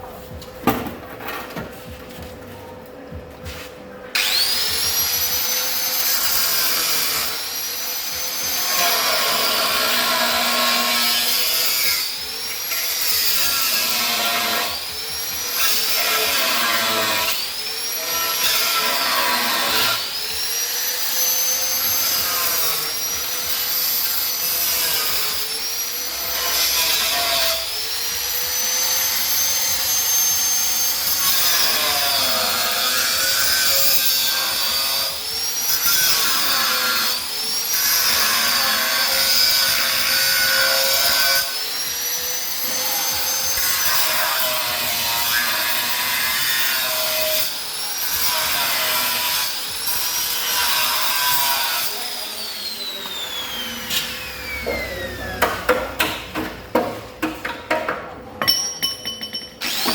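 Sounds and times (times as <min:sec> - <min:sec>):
angle grinder on metal: 0:04.2 - 0:56.2, 0:59.6 - 0:59.9.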